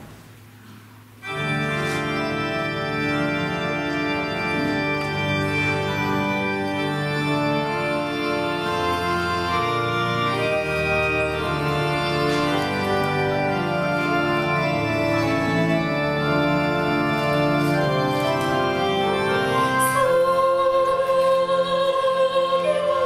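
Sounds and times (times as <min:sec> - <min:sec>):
organ chords on electronic keyboard: 0:01.2 - 0:20.7.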